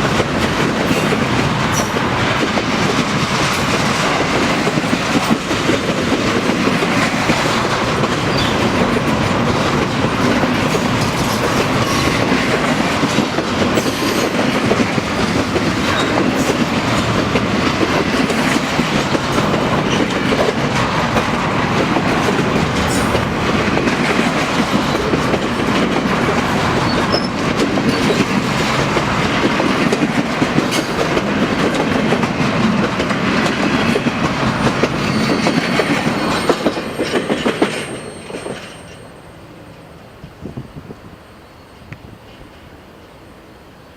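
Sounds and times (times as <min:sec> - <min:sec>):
clickety-clack over rail joints: 0:00.0 - 0:39.1
train wheels rumbling on rail: 0:00.0 - 0:43.9.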